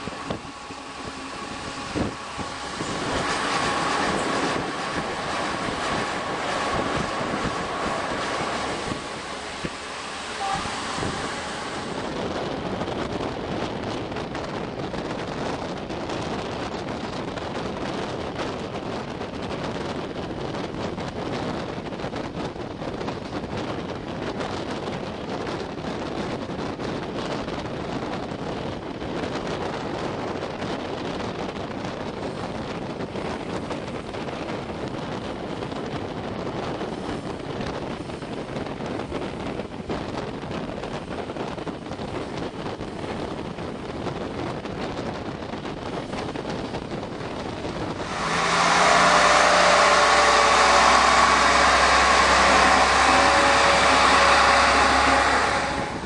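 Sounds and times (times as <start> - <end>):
train running noise: 0.0 - 56.0
wind rushing over microphone: 0.0 - 56.0.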